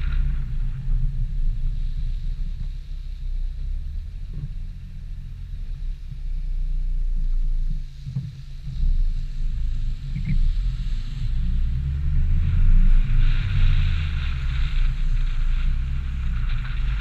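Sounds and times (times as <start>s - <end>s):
car engine drone: 0.0s - 17.0s.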